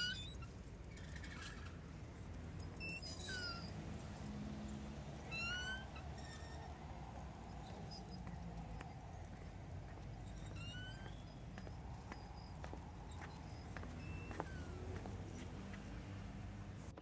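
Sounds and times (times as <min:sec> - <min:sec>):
low street ambience rumble: 0:00.0 - 0:17.0.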